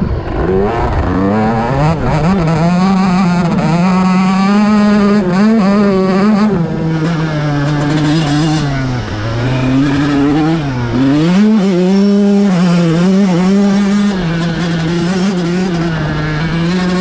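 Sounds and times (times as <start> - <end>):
two-stroke motorbike engine revving: 0.0 - 17.0.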